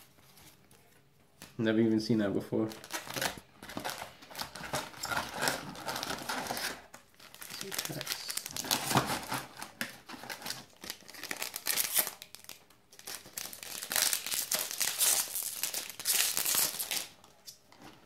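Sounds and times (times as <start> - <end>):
foil wrappers crinkling: 2.7 - 17.2.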